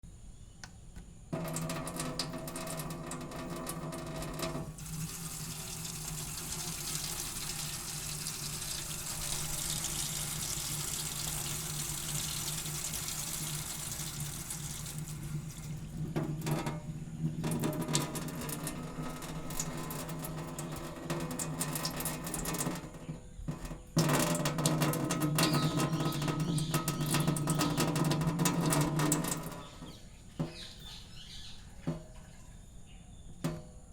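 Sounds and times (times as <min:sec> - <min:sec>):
tap water running into sink: 0:01.3 - 0:31.0
water dripping: 0:01.3 - 0:32.6.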